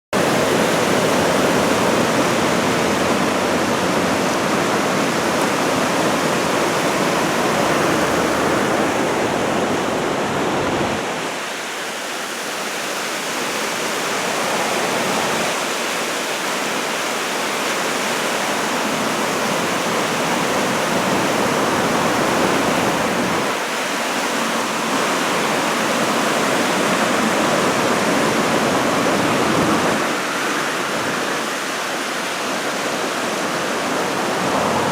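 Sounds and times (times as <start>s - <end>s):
ocean surf breaking on shore: 0.2s - 34.9s.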